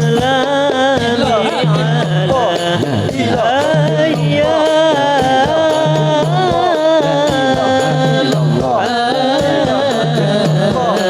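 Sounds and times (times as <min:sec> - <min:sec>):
steady percussion: 0:00.0 - 0:11.0.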